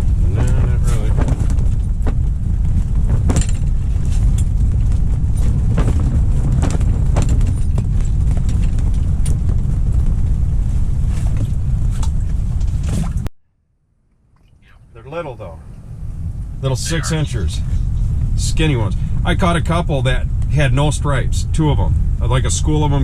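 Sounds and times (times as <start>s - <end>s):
wind buffeting microphone: 0.0s - 13.3s, 15.3s - 23.0s.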